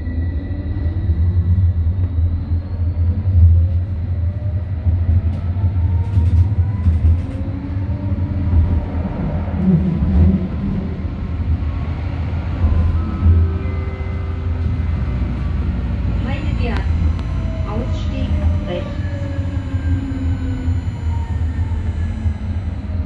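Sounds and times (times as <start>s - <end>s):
rising traction motor whine: 0.0s - 23.0s
wheels rumbling on rails: 0.0s - 23.0s.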